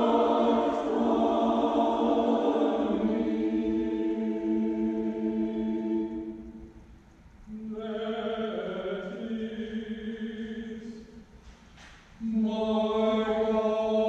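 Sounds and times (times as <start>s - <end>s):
choir singing sustained chords: 0.0s - 11.3s, 12.2s - 14.0s.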